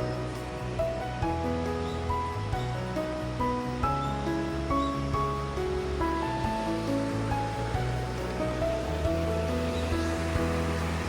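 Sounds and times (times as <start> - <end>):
background music with bass: 0.0 - 11.0.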